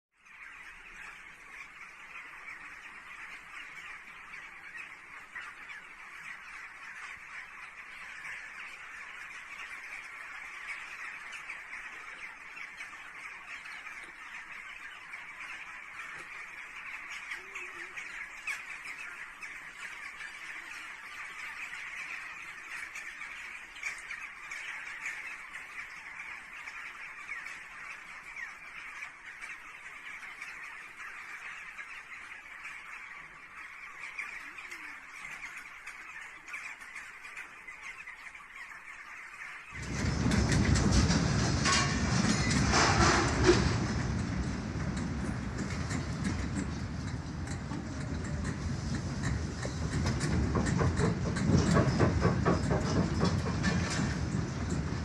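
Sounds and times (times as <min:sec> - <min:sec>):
flock of birds chattering: 0:00.2 - 0:55.0.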